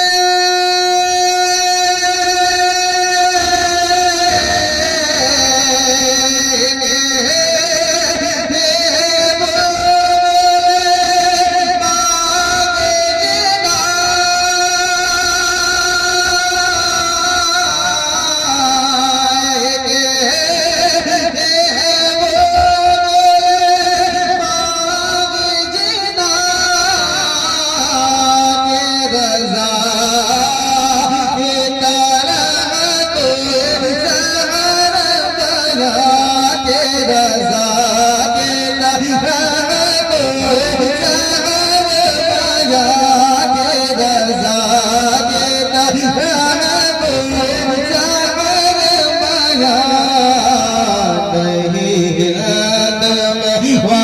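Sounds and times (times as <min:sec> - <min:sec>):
man singing wordless melody: 0:00.0 - 0:54.0.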